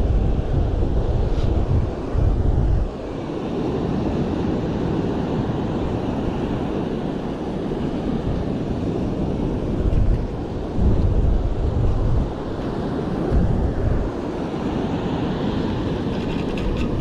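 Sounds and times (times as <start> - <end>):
surf washing: 0.0 - 17.0
wind rushing over microphone: 0.0 - 17.0.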